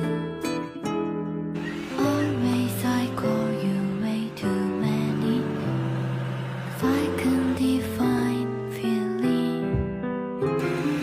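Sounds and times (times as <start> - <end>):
guitar: 0.0 - 11.0
soft background music: 0.0 - 11.0.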